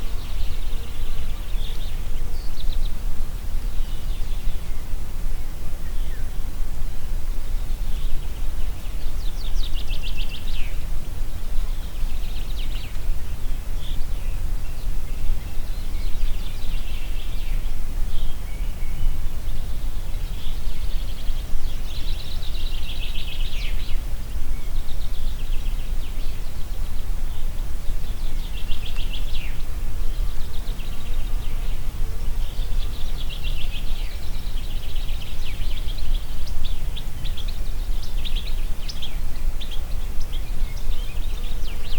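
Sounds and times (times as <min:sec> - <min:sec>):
songbirds singing trills: 0:00.0 - 0:03.1, 0:07.3 - 0:41.9
wind blowing through trees: 0:00.0 - 0:41.9.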